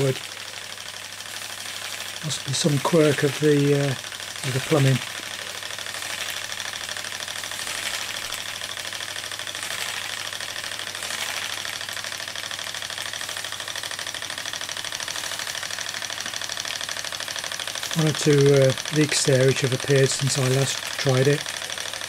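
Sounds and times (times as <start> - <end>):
steam hissing: 0.0 - 22.0
toy steam engine running: 0.0 - 22.0.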